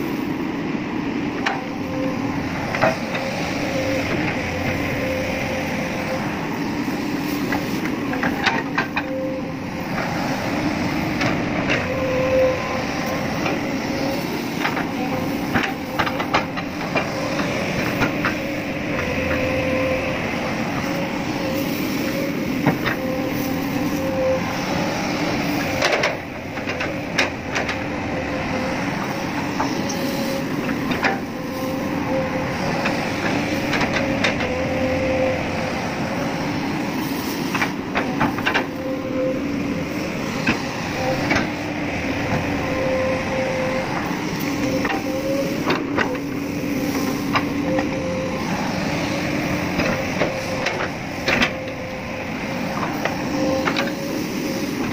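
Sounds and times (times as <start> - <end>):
excavator engine running: 0.0 - 54.9.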